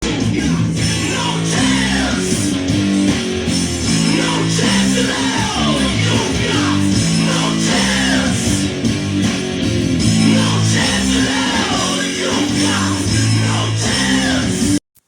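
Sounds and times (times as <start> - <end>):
guitar intro music: 0.0 - 14.8.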